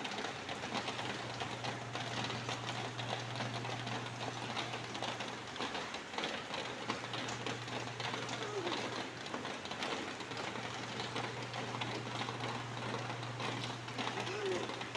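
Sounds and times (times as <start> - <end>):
rain falling: 0.0 - 14.9.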